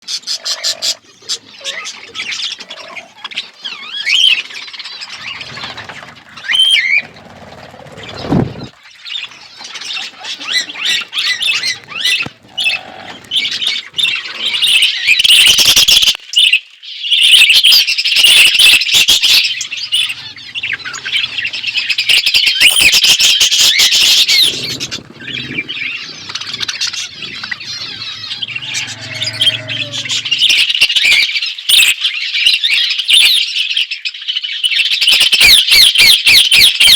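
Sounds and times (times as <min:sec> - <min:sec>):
budgerigars chattering and warbling: 0:00.0 - 0:36.7.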